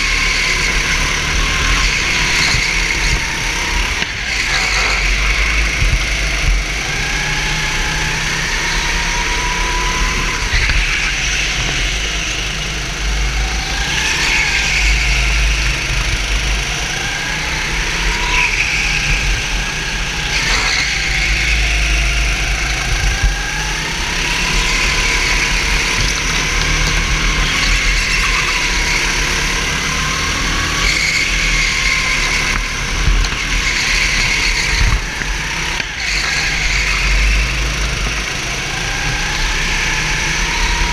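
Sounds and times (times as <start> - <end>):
racing kart engine: 0.0 - 40.9.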